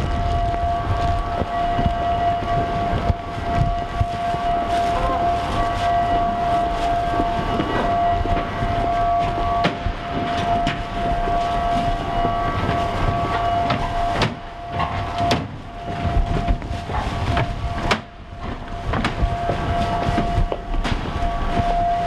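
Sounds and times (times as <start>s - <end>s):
footsteps: 0.0s - 22.0s
machinery hum with steady whine: 0.0s - 22.0s.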